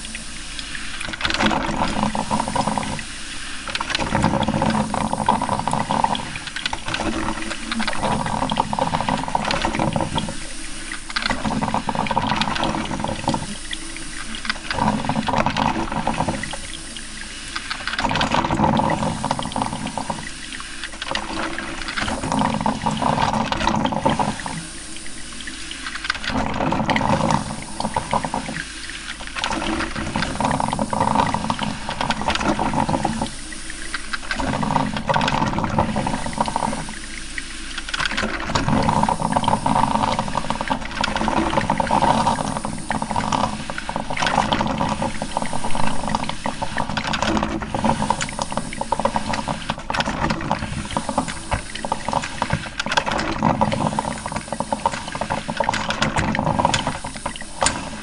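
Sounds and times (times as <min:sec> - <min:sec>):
coffee maker water bubbling: 0:00.0 - 0:58.0.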